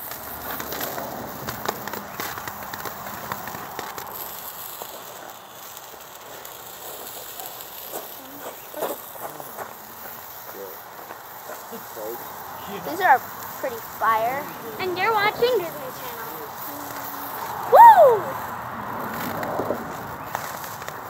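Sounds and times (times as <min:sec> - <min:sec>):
firework crackling: 0:00.0 - 0:21.0
loud firework cracks: 0:00.0 - 0:21.0.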